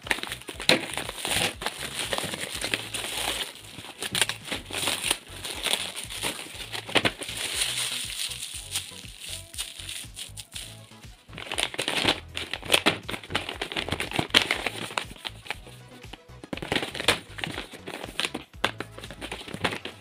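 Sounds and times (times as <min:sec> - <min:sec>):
background music with bass line: 0:00.0 - 0:20.0
plastic wrap and paper crinkling: 0:00.0 - 0:20.0.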